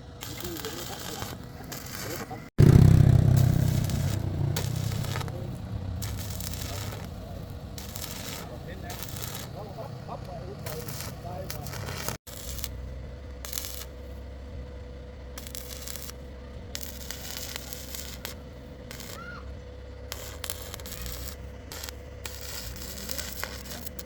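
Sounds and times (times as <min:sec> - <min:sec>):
steady low hum: 0:02.3 - 0:24.0.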